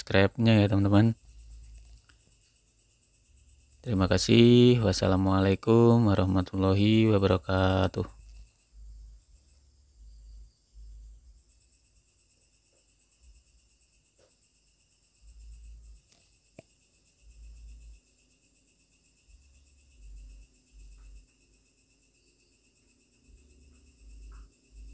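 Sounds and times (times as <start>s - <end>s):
insect chorus trilling: 0.0s - 24.9s.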